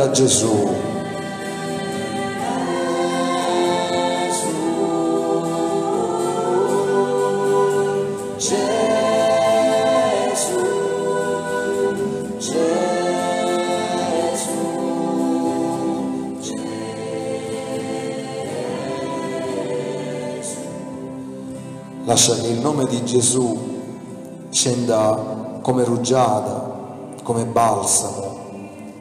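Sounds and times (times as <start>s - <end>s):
choir singing slow sacred song: 0.0s - 29.0s.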